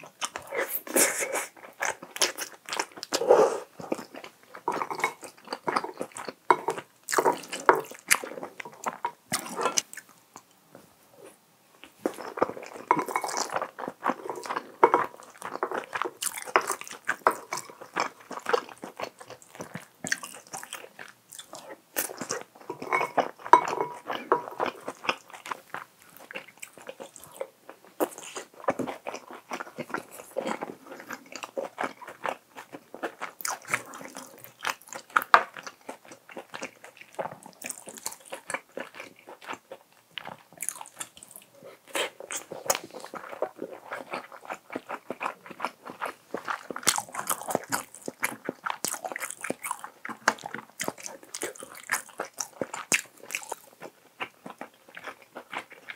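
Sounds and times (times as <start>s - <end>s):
chewing food with crunching: 0.0s - 55.9s.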